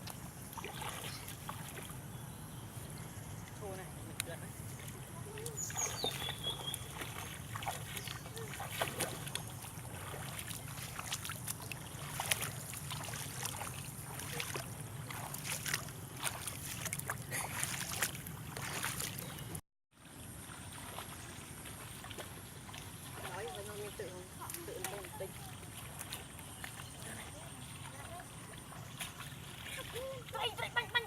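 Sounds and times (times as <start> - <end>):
steady low hum: 0.0 - 31.0
water splashing and sloshing: 0.0 - 31.0.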